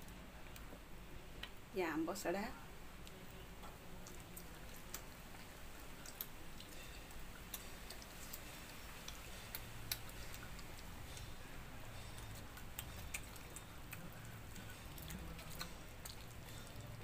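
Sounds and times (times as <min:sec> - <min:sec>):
faint low hum: 0:00.0 - 0:17.0
wet chewing mouth clicks: 0:03.0 - 0:17.0.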